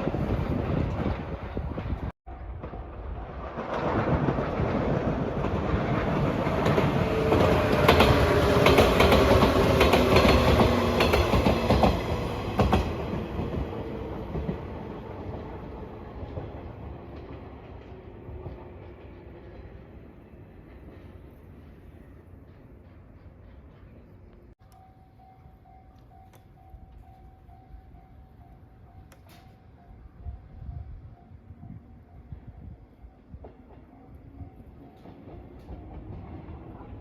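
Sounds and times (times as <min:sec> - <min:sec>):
clickety-clack over rail joints: 0:00.0 - 0:24.9, 0:28.9 - 0:37.0
train wheels rumbling: 0:00.0 - 0:37.0.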